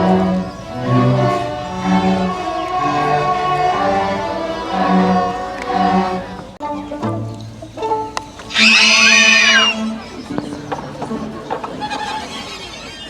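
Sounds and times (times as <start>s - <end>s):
orchestra bowed strings: 0.0s - 13.0s.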